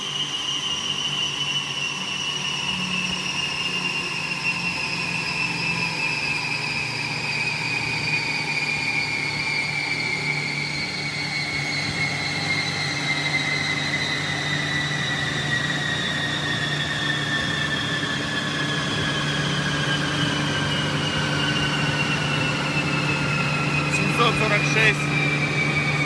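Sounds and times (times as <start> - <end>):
high whine falling in pitch: 0.0 - 26.0.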